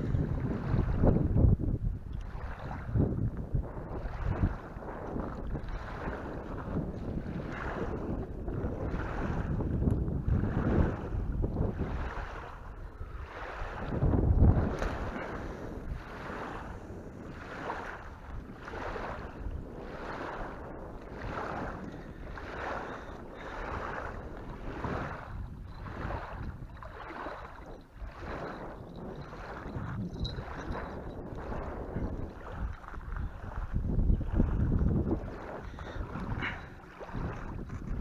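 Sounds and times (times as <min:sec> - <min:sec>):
small waves lapping: 0:00.0 - 0:38.0
wind rumbling on microphone: 0:00.0 - 0:38.0.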